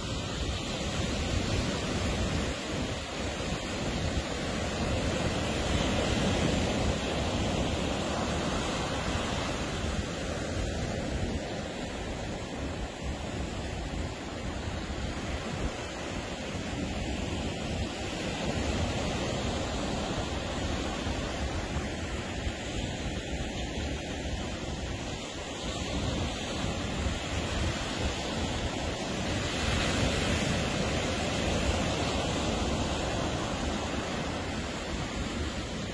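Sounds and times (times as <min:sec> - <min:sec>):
ocean surf washing on beach: 0:00.0 - 0:35.9.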